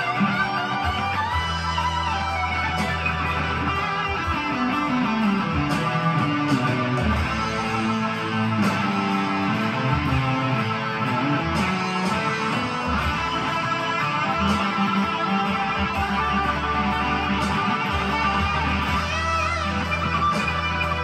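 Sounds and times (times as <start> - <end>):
distorted electric guitar blues: 0.0 - 21.0.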